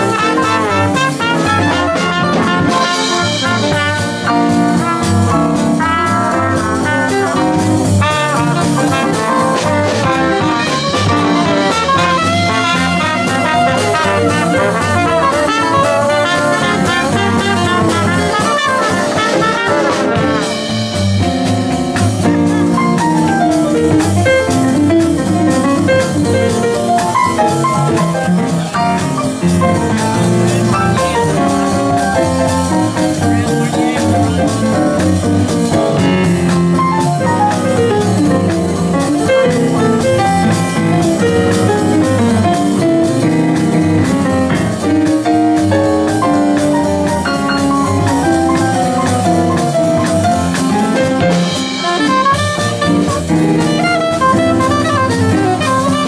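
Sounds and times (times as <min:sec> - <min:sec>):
jazz band playing: 0:00.0 - 0:56.0
piano: 0:00.0 - 0:56.0.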